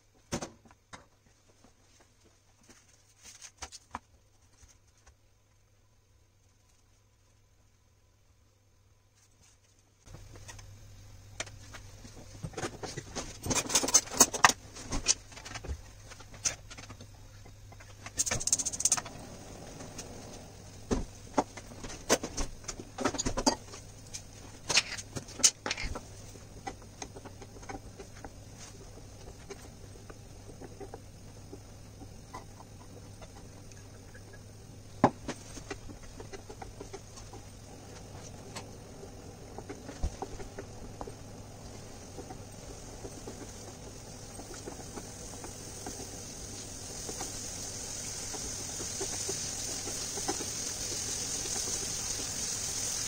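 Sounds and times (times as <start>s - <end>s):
steady low hum: 1.0s - 53.0s.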